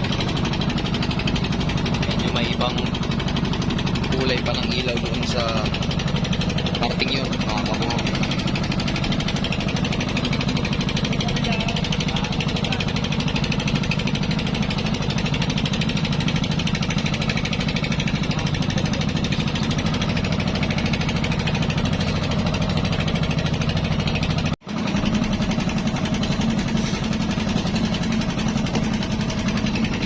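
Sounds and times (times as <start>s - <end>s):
boat engine chugging: 0.0s - 30.0s.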